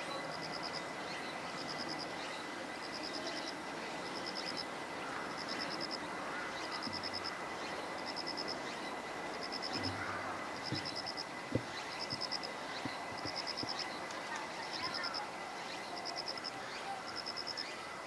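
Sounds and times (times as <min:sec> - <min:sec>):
insect chirping trill: 0:00.0 - 0:18.0
steady hiss: 0:00.0 - 0:18.0.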